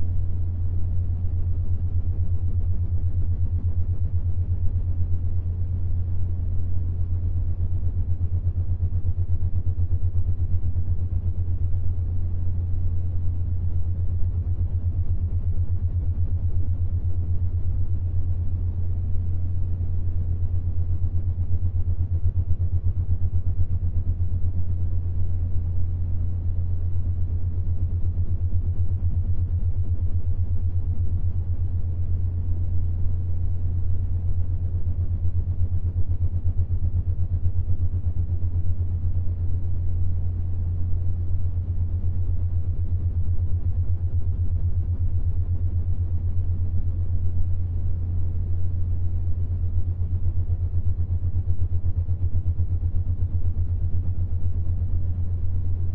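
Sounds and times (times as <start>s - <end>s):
faint rumbling wash: 0.0s - 55.9s
flickering low synth drone: 0.0s - 55.9s.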